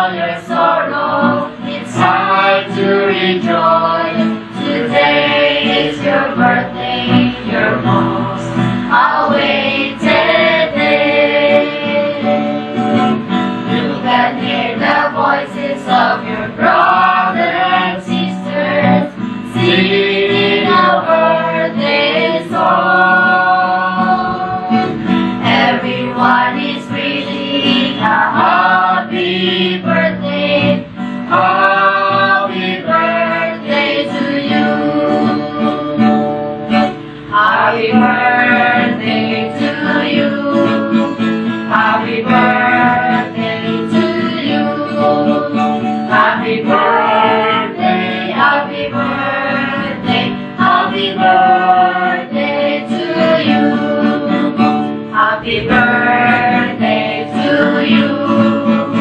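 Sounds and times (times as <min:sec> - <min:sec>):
acoustic guitar: 0:00.0 - 0:59.0
group of voices singing: 0:00.0 - 0:59.0.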